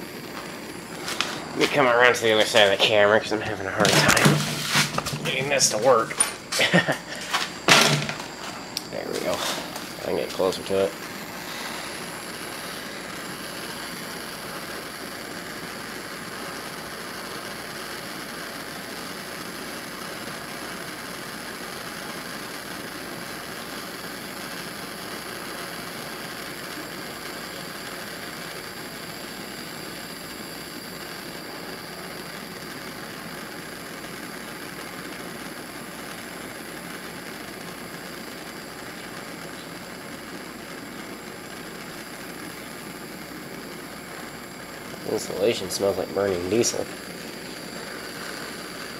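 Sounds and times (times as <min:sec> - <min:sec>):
propane torch hissing: 0:00.0 - 0:48.9.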